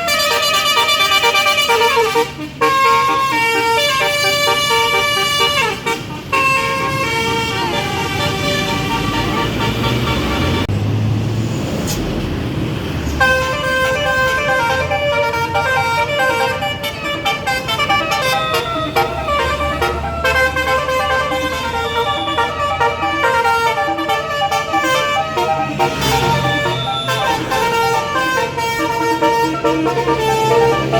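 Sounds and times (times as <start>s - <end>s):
musical horn melody: 0.0s - 10.7s, 13.2s - 30.9s
bus engine rumble: 0.0s - 30.9s.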